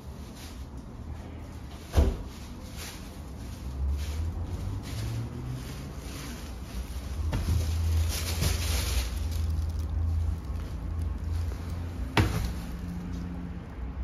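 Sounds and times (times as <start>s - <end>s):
shopping bags rustling: 0.0s - 13.6s.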